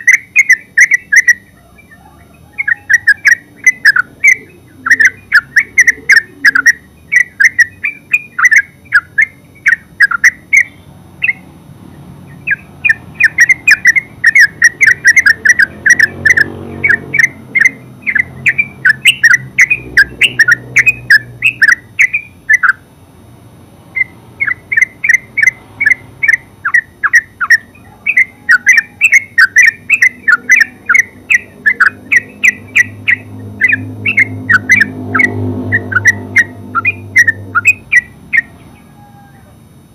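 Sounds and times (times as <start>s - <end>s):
bird calling in rapid notes: 0.0s - 22.9s, 23.9s - 39.4s.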